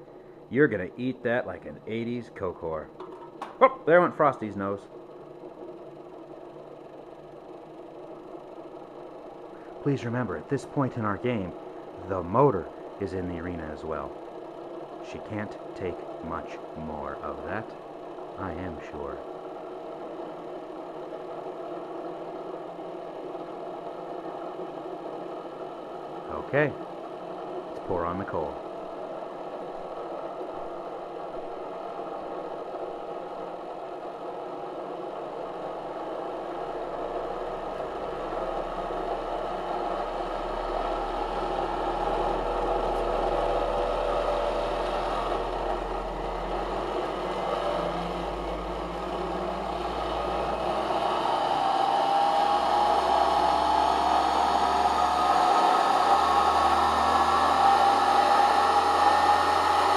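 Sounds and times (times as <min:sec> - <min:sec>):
electric motor whirring: 0:04.4 - 0:59.9.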